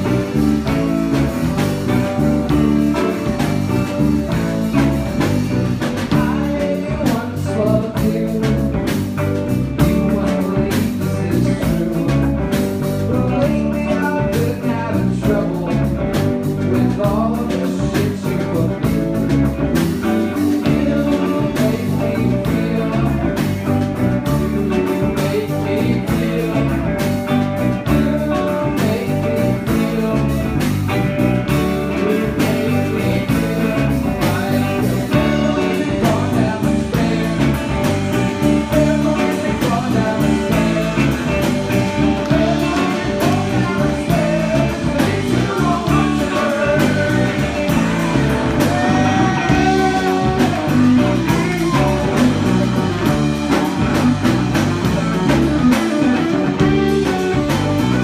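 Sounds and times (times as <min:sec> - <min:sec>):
drum kit: 0:00.0 - 0:58.0
electric bass: 0:00.0 - 0:58.0
electric guitar: 0:00.0 - 0:58.0
keyboard: 0:00.0 - 0:58.0.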